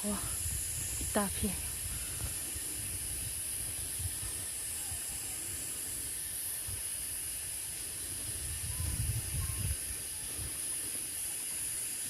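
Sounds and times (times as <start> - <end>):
insects hissing: 0.0 - 12.0
wind rumbling on microphone: 0.0 - 12.0.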